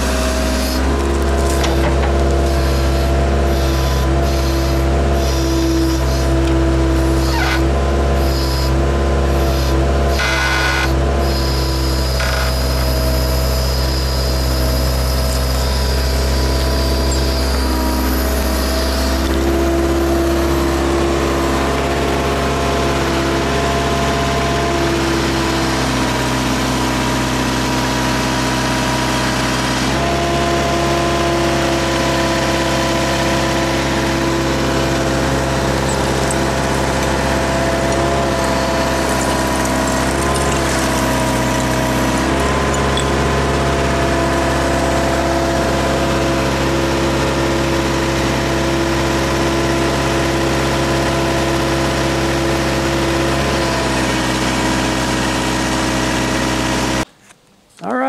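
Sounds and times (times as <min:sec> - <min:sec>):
backhoe engine running: 0:00.0 - 0:57.1.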